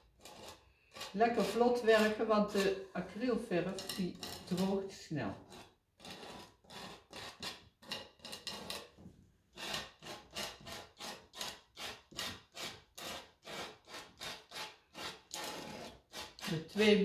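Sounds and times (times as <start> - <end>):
painting tool scratching canvas: 0.0 - 17.0.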